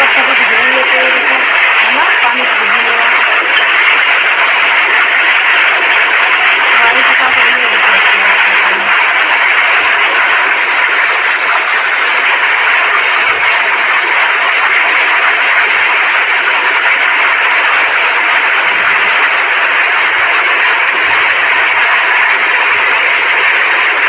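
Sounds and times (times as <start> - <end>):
heavy rain and hail: 0.0 - 24.0.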